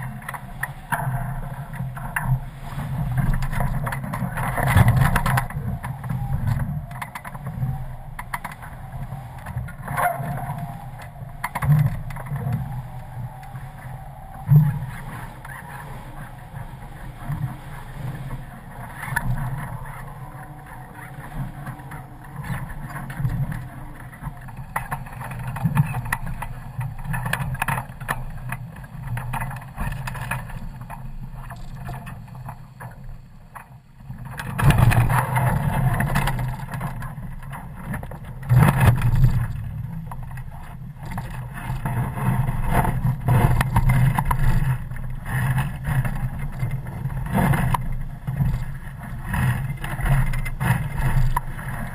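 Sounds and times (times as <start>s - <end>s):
wind buffeting camera: 0.0s - 51.9s.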